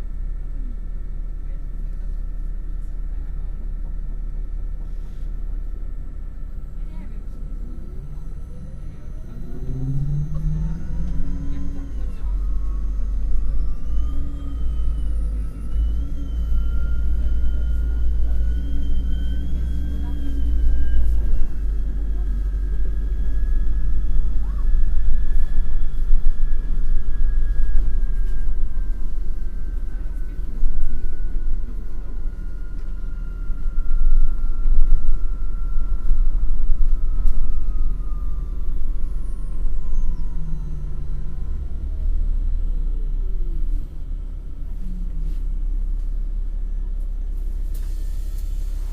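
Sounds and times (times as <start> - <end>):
bus engine rumble and whine: 0.0 - 48.9.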